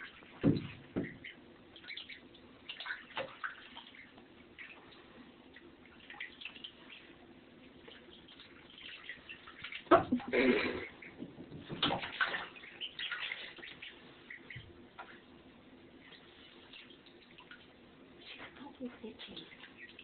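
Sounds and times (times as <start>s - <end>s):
ducklings splashing in water: 0.0s - 20.0s.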